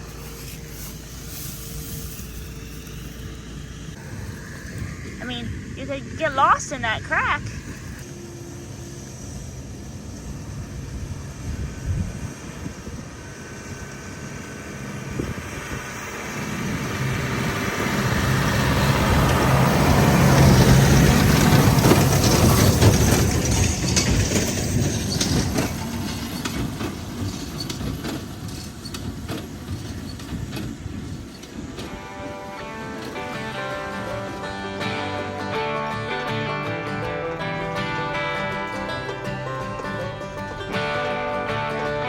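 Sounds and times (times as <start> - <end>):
tractor engine running: 0.0 - 42.0.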